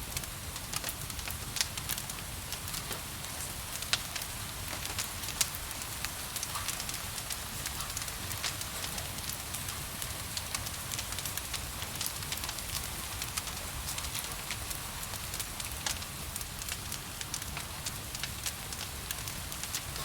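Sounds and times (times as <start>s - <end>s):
gentle rain hiss: 0.0s - 20.0s
wood fire crackling and popping: 0.0s - 20.0s.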